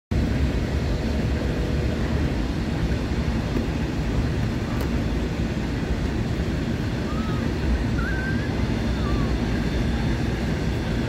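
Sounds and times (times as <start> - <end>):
freight train rumbling on track: 0.1 - 11.0.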